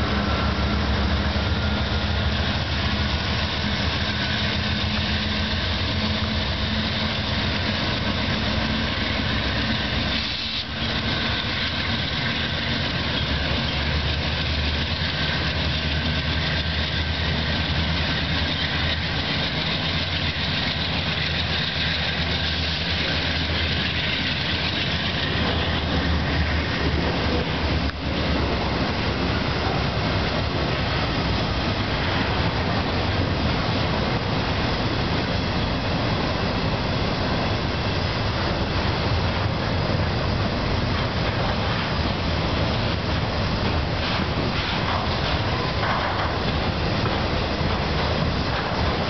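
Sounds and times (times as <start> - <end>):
diesel locomotive engine: 0.0 - 49.0
freight cars rumbling on rails: 0.0 - 49.0.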